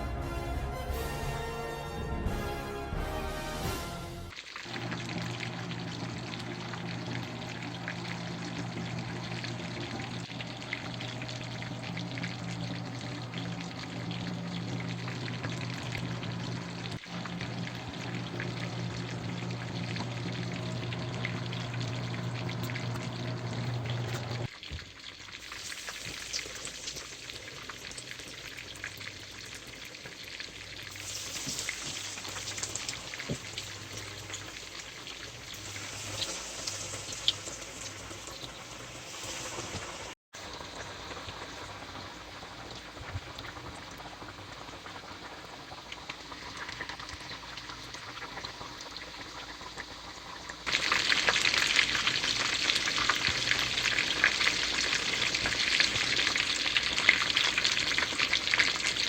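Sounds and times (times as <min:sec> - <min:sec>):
chicken frying in hot oil: 0:04.3 - 0:59.0.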